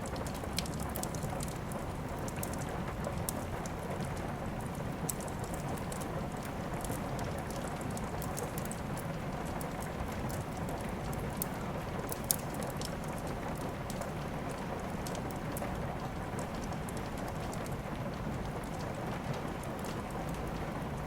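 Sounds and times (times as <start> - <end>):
steady rain: 0.0 - 21.0
wood fire crackling: 0.0 - 21.0.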